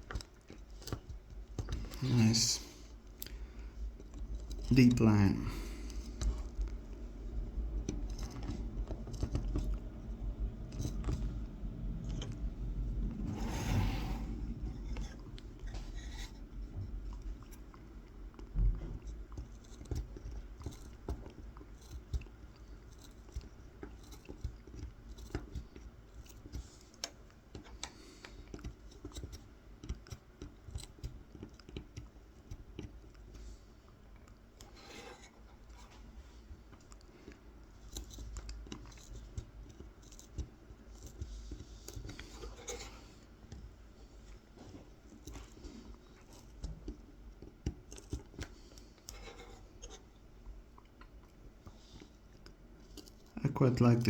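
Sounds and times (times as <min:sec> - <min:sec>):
knife clicking and scratching wood: 0:00.0 - 0:07.0, 0:07.6 - 0:11.3, 0:14.8 - 0:53.4.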